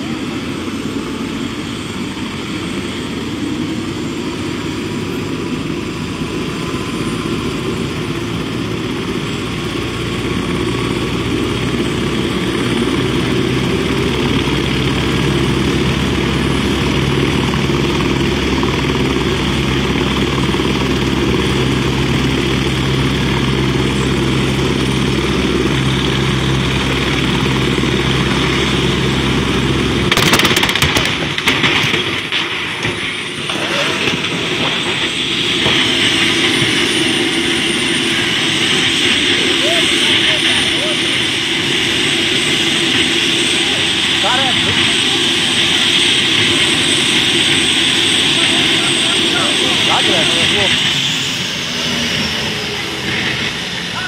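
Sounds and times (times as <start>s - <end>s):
helicopter engine whine: 0.0s - 54.0s
helicopter rotor beat: 0.0s - 54.0s.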